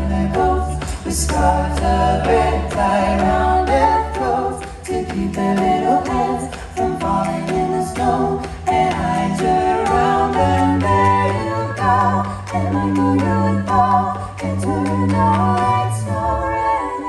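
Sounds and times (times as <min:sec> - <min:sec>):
a cappella group singing harmonies: 0:00.0 - 0:17.0.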